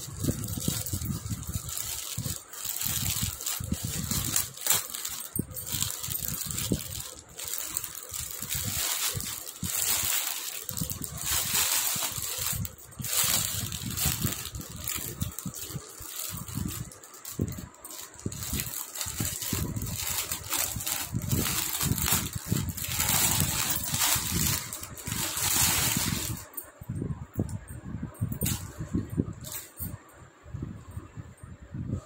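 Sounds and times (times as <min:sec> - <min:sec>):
plastic mailer bag rustling: 0:00.0 - 0:26.6.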